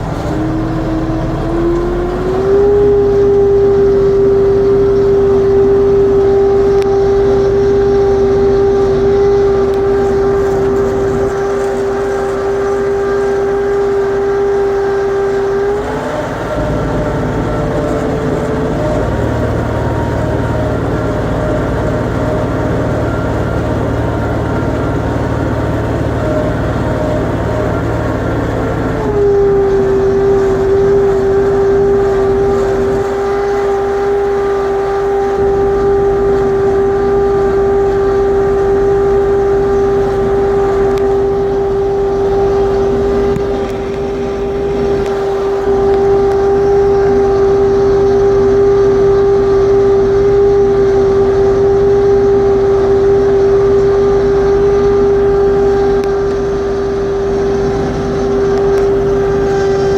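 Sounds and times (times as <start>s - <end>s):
loud steady hydraulic whine: 0.0s - 59.9s
tractor diesel engine running: 0.0s - 59.9s.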